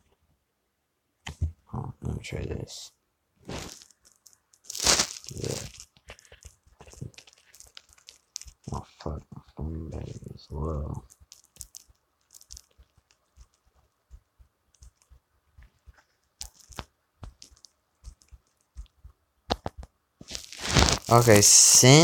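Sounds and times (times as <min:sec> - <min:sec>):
faint small clicks and crackles: 0:03.5 - 0:21.5.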